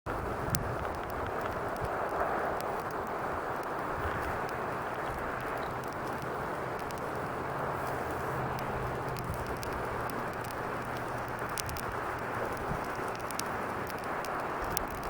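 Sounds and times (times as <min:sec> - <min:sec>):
campfire flames rushing: 0:00.1 - 0:15.0
wood crackling and popping: 0:00.1 - 0:15.0.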